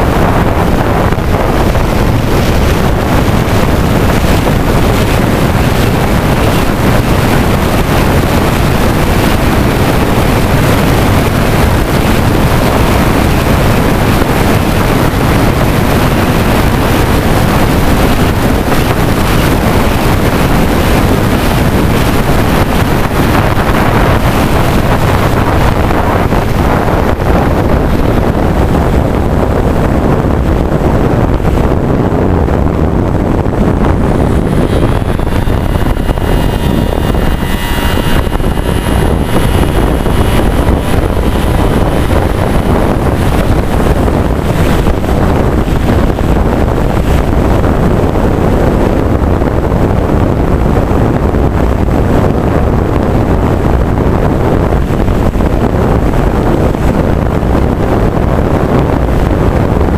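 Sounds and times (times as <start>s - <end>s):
airflow rushing over microphone: 0.0s - 59.9s.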